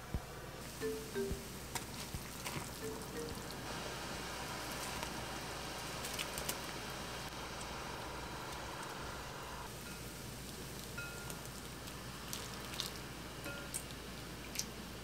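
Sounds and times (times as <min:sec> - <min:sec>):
steady mechanical hum: 0:00.0 - 0:15.0
broth simmering in pot: 0:00.6 - 0:15.0.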